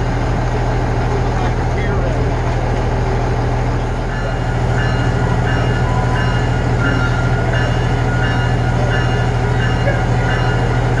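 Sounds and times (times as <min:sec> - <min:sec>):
diesel train engine idling: 0:00.0 - 0:11.0.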